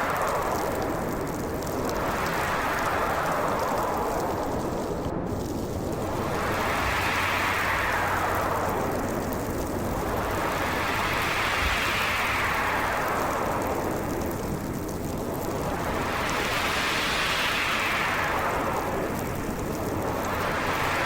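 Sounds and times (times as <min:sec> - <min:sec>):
storm wind gusting: 0:00.0 - 0:21.0.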